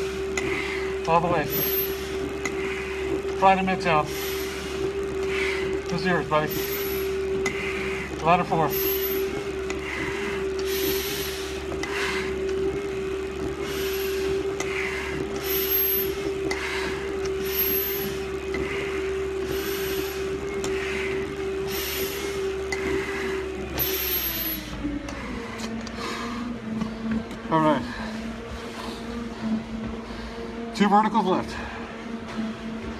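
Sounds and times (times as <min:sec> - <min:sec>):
heavy breathing through a mask: 0:00.0 - 0:01.0, 0:01.6 - 0:03.3, 0:03.9 - 0:05.9, 0:06.5 - 0:30.8, 0:31.4 - 0:32.9
steady hum: 0:00.0 - 0:32.9.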